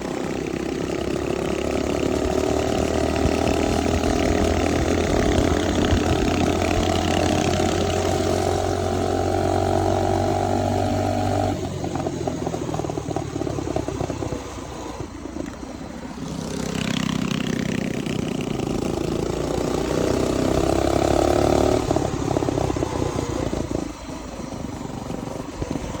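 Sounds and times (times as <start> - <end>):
small motorbike engine revving: 0.0 - 26.0.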